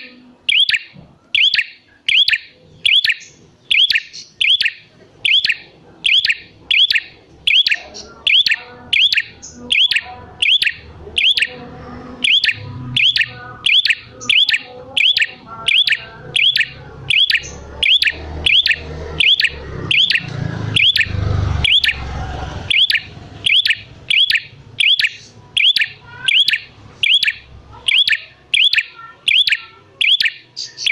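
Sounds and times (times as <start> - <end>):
bird calling high notes: 0.0 - 30.9.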